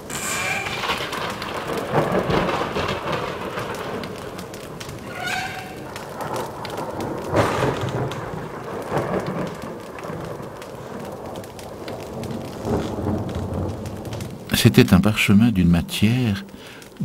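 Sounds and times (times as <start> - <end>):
heavy rain falling: 0.0 - 17.0
thunder rumbling: 0.0 - 17.0.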